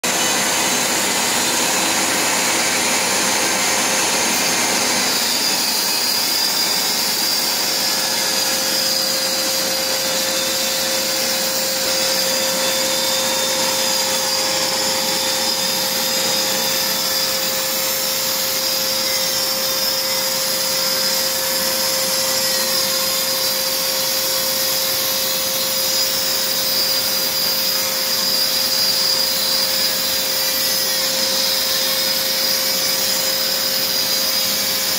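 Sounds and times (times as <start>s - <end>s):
vacuum cleaner running: 0.0s - 34.9s
rotary tool grinding grout: 0.1s - 34.9s.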